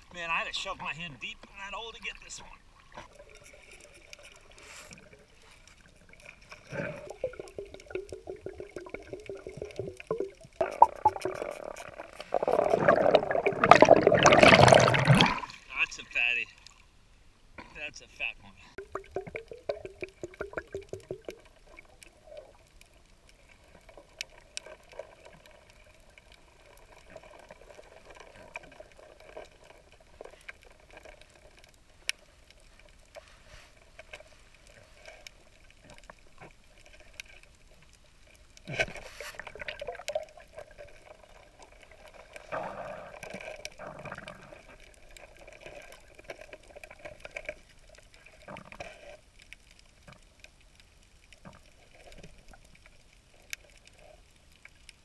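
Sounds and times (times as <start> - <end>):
underwater clicks and crackles: 0.0 - 16.9, 18.8 - 55.0
faint underwater wash: 0.0 - 55.0
rush of water and bubbles: 2.0 - 16.9, 18.7 - 55.0.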